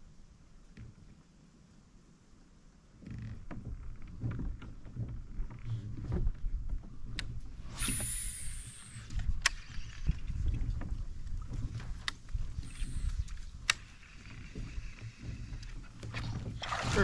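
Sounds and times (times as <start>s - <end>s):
wind rumble on microphone: 3.1s - 17.0s.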